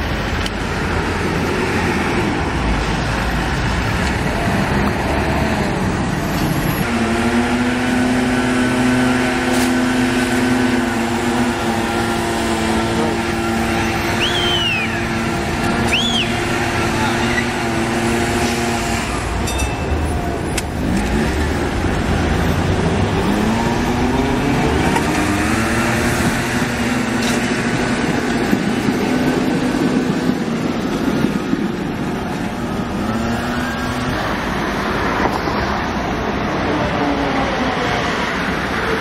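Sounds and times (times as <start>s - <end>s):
city traffic noise: 0.0s - 39.0s
tram motors whining: 4.0s - 39.0s.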